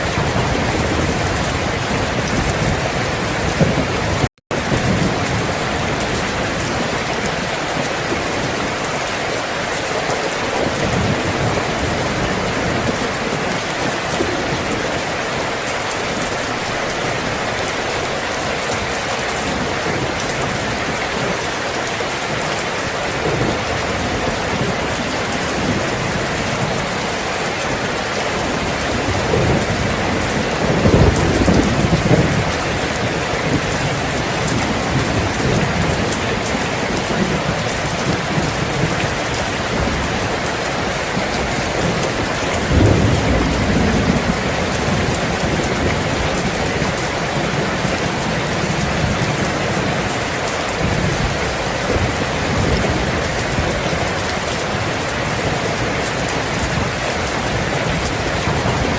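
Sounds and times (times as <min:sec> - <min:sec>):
steady rain falling: 0:00.0 - 0:58.9
thunder rumbling: 0:00.0 - 0:58.9.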